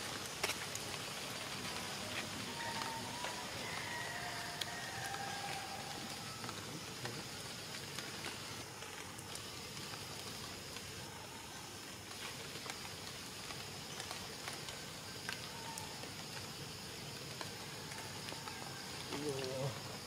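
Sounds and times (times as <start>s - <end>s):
single raindrops ticking: 0.0s - 11.1s, 12.0s - 20.0s
steady rainfall hiss: 0.0s - 20.0s.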